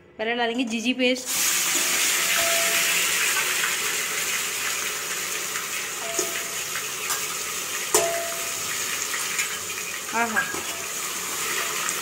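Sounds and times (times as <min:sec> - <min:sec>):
paste sizzling in hot oil: 0:01.3 - 0:12.0.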